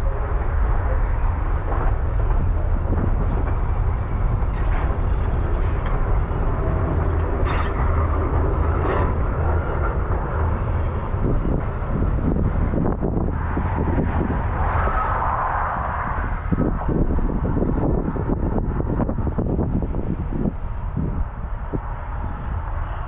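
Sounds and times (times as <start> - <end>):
vehicle rumbling in motion: 0.0 - 23.0.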